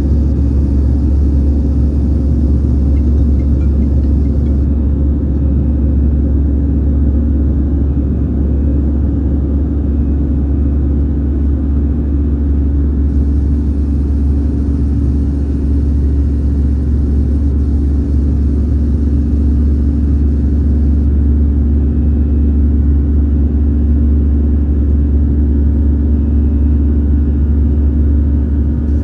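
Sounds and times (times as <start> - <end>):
jet engines droning in cabin: 0.0 - 29.0.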